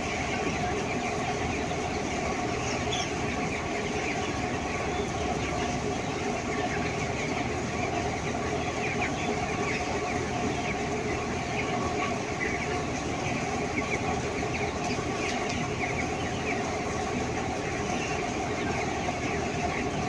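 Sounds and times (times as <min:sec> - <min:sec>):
chickens chirping and clucking: 0:00.0 - 0:20.0
mechanical hum: 0:00.0 - 0:20.0.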